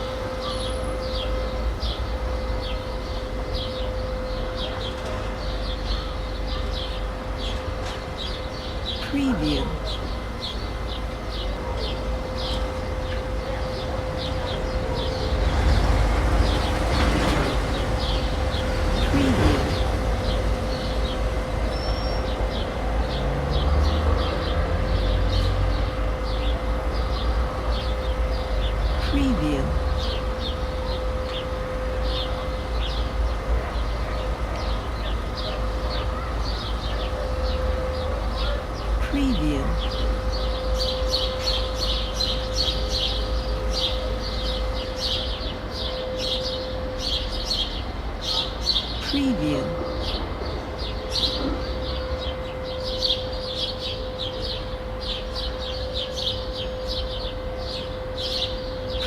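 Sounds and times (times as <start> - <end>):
distant city traffic rumble: 0.0 - 59.0.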